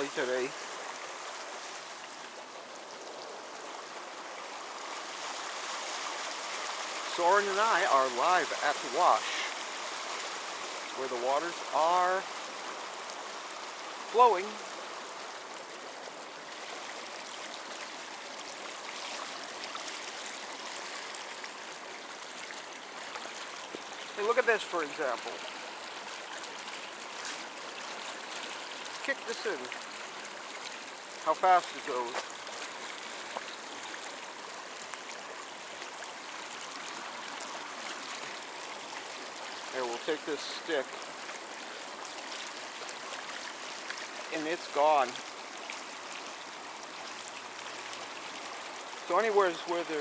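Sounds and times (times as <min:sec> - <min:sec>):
runoff water rushing: 0:00.0 - 0:50.0.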